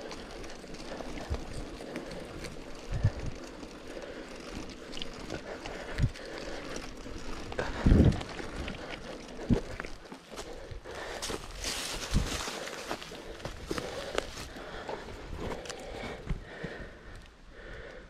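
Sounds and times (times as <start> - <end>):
bike tyres rolling on trail: 0.0 - 18.0.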